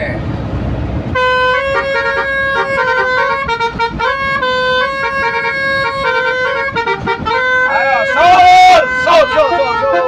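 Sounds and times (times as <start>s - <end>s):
multi-tone bus horn melody: 1.1s - 10.0s.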